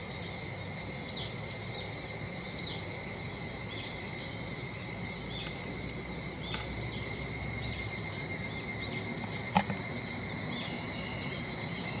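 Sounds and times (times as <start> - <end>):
cicadas droning and chirping: 0.0 - 12.0.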